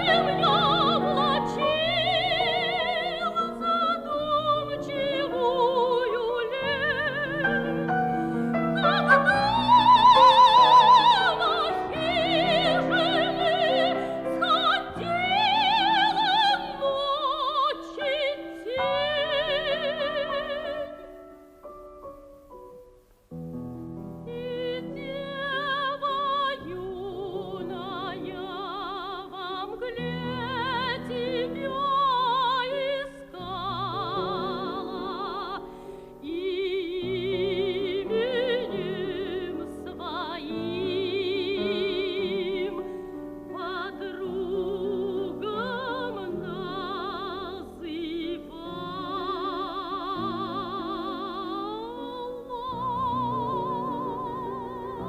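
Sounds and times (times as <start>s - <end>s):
soprano singing operatically: 0.0s - 21.6s, 24.0s - 55.0s
piano accompaniment: 0.0s - 55.0s.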